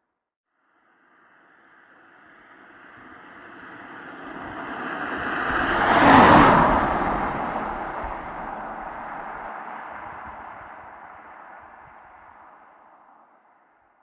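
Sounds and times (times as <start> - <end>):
car passing by: 0.9 - 13.6.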